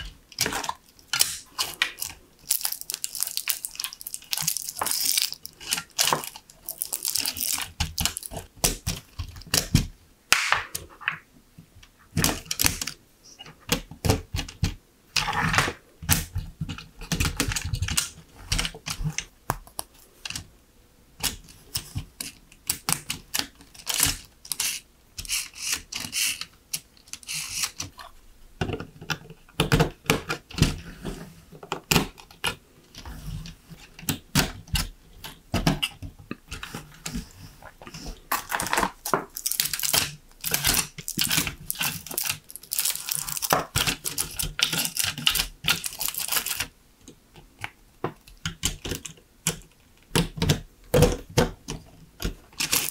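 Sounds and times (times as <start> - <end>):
plastic parts clicking together: 0.0 - 11.2, 12.2 - 20.5, 21.2 - 30.8, 38.3 - 52.9.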